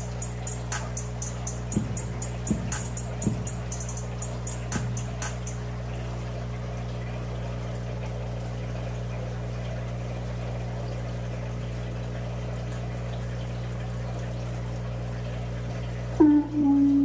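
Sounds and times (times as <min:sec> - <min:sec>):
aquarium pump humming: 0:00.0 - 0:17.0
water trickling: 0:00.0 - 0:17.0.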